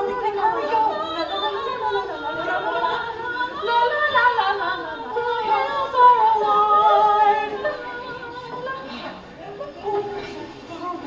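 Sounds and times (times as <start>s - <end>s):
women singing: 0.0s - 11.0s.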